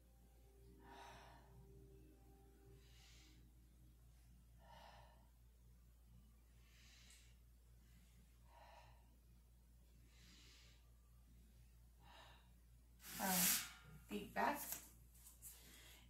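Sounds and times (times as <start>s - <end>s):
low steady hum: 0.0s - 16.0s
woman breathing: 0.6s - 14.2s, 15.4s - 16.0s.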